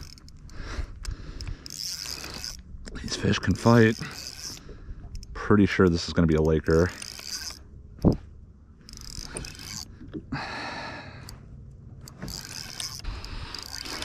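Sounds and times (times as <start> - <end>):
fishing reel gears whirring: 0.0 - 14.0.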